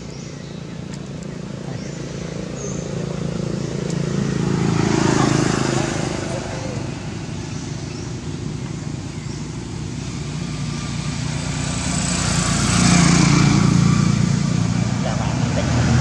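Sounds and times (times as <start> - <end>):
motorbike engine humming: 0.0 - 16.0.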